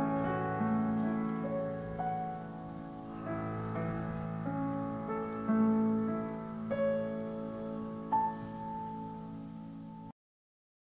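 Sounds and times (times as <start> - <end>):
soft piano music: 0.0 - 10.1.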